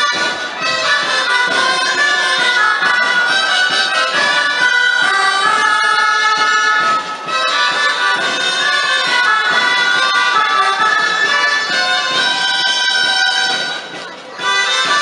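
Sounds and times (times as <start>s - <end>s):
shawms playing a folk dance tune: 0.0s - 15.0s.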